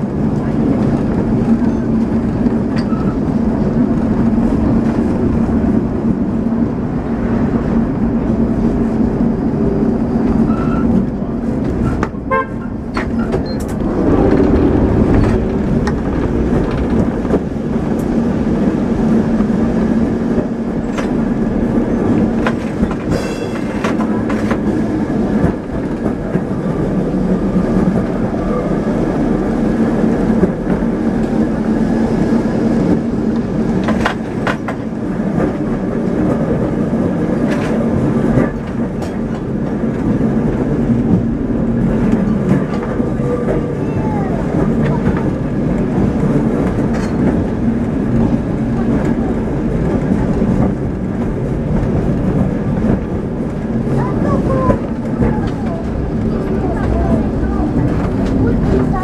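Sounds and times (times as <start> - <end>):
tram car rattling on rails: 0.0 - 59.0
tram motor hum: 0.0 - 59.0.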